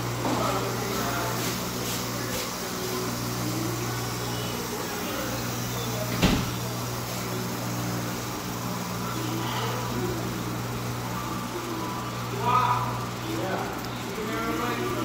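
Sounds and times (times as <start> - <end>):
faint voices: 0.0 - 15.0
steady low hum: 0.0 - 15.0.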